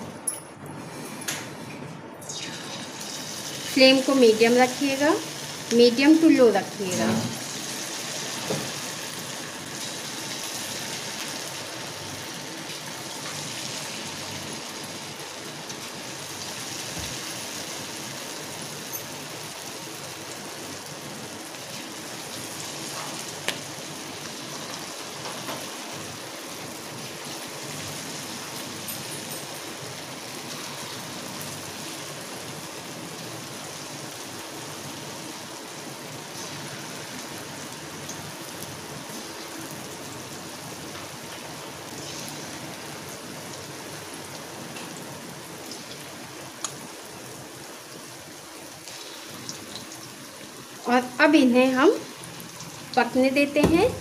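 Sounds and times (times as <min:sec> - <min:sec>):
oil sizzling and bubbling: 0:00.8 - 0:54.0
sharp crackles of frying oil: 0:02.2 - 0:54.0.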